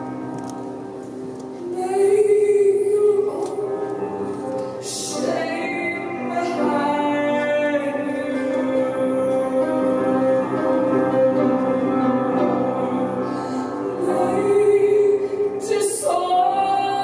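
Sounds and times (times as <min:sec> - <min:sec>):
piano chords: 0:00.0 - 0:17.0
woman singing into a microphone: 0:01.6 - 0:17.0.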